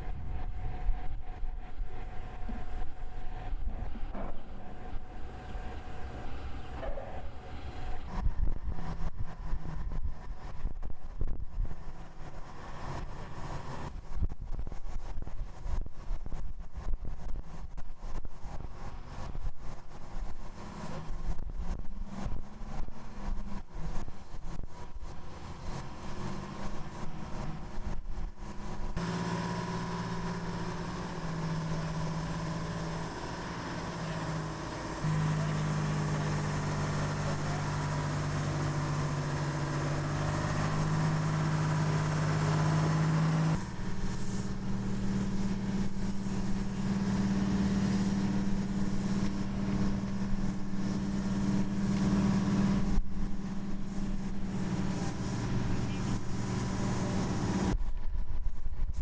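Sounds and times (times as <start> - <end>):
tractor engine humming: 0.0 - 59.0.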